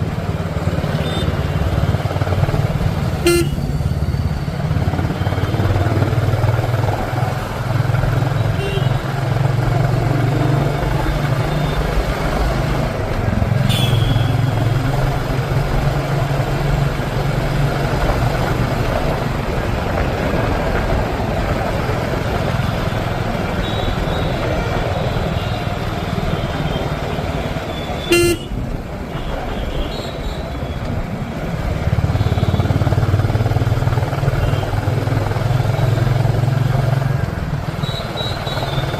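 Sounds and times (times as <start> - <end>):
motorcycle engine hum: 0.0 - 38.9
wind and road noise: 0.0 - 38.9.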